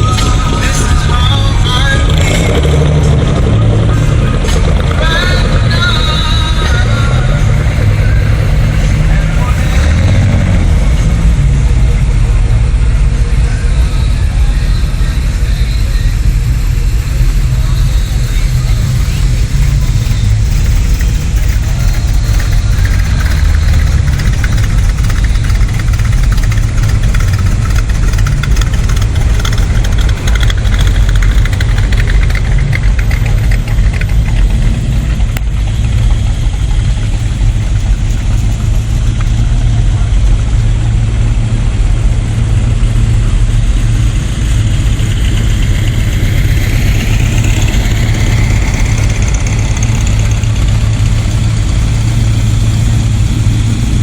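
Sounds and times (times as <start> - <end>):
car engines rumbling: 0.0 - 54.0.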